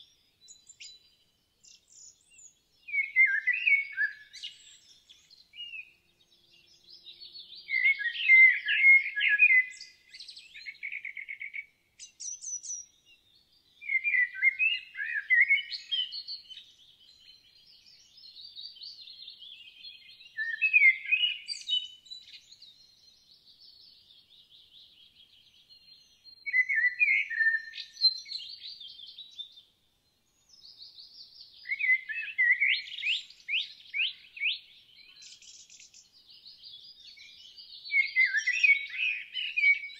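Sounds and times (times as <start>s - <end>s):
quiet bird twittering: 0.0s - 39.9s
songbird singing: 0.0s - 39.9s.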